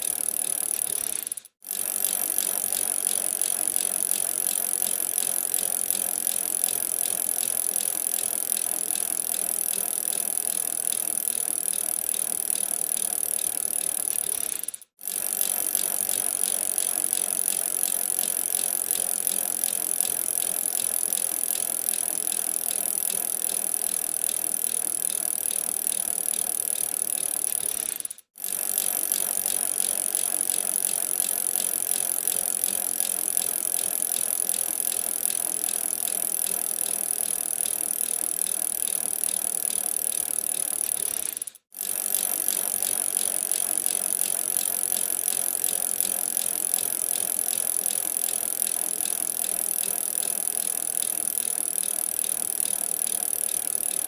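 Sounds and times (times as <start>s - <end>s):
bicycle rattling and ticking: 0.0s - 54.0s.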